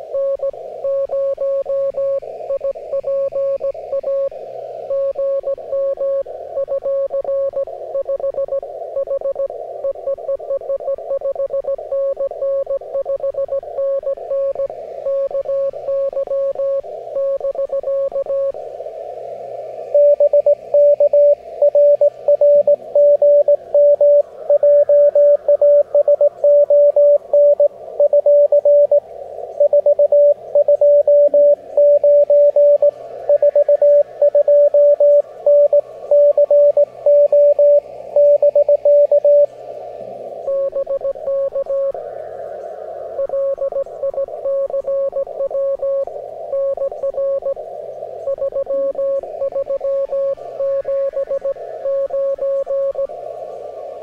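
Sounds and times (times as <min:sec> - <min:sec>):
radio hiss: 0:00.0 - 0:54.0
morse code tone: 0:00.2 - 0:04.3, 0:04.9 - 0:18.5, 0:20.0 - 0:29.0, 0:29.6 - 0:39.5, 0:40.5 - 0:42.0, 0:43.2 - 0:47.6, 0:48.3 - 0:53.1.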